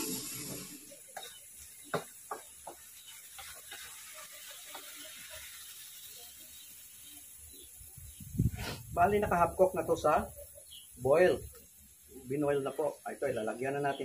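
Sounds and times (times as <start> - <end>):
faint frying hiss: 0.0 - 14.0.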